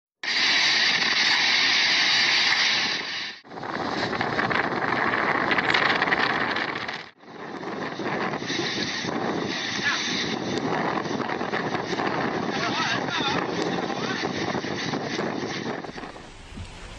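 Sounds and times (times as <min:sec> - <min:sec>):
wind and driving rain: 0:00.2 - 0:16.9.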